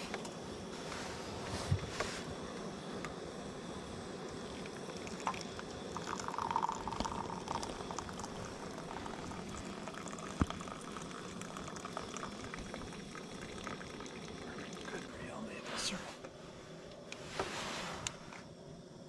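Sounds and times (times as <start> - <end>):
hot drink pouring into mugs: 0.0 - 15.9.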